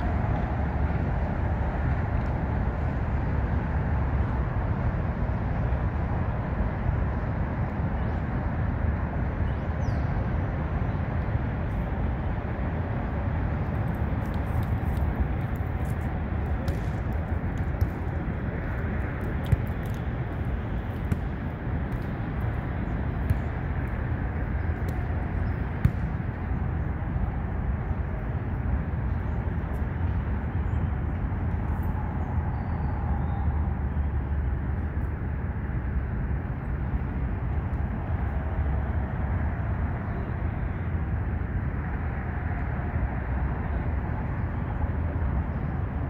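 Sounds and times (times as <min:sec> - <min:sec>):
highway traffic rumble: 0:00.0 - 0:46.0.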